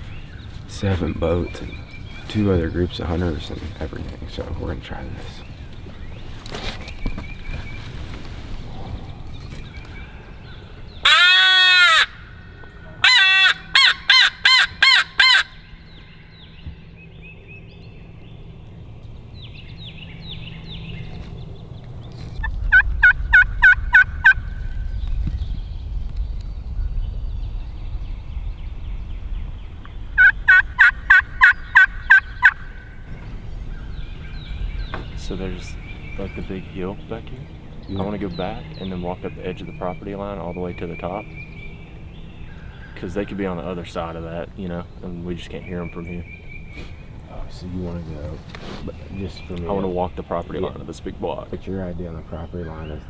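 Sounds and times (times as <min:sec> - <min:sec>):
bird-like calls: 0:00.0 - 0:16.8, 0:26.9 - 0:53.0.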